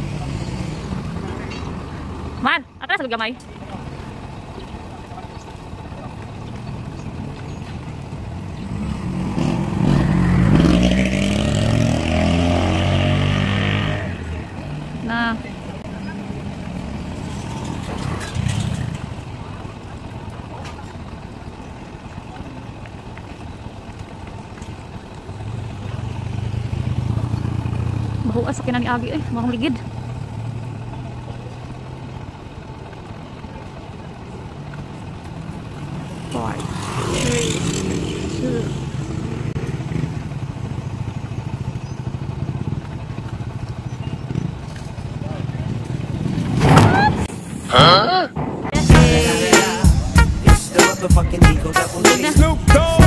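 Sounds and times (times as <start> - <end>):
distant vehicle engine running: 0.0 - 47.6
outdoor noise: 0.0 - 53.0.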